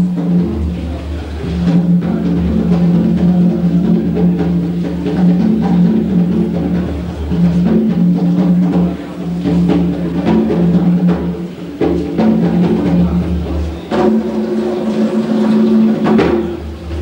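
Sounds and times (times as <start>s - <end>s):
drum strikes: 0.0s - 17.0s.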